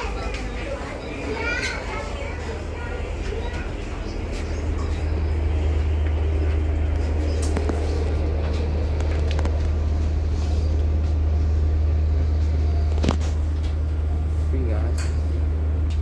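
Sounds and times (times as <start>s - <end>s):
ferry engines rumbling: 0.0s - 16.0s.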